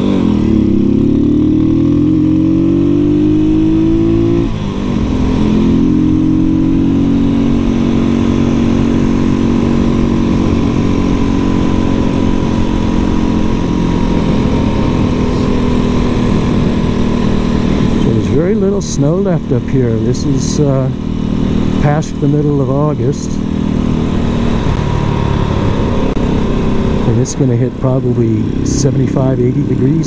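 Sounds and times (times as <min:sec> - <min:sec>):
single-cylinder engine revving: 0:00.0 - 0:30.0.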